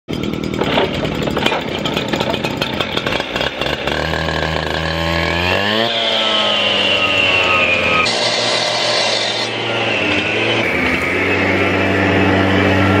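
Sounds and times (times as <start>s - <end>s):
cut-off saw engine running: 0.1s - 13.0s.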